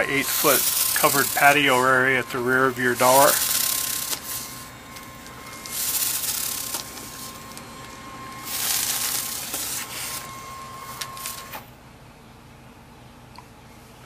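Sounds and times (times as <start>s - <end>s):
awning motor whining: 0.0s - 11.8s.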